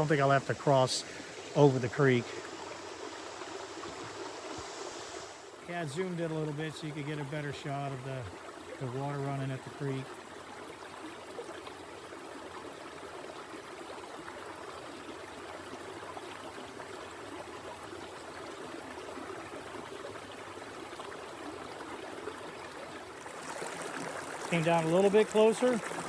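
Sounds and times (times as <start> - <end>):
creek running over rocks: 0.0 - 26.0.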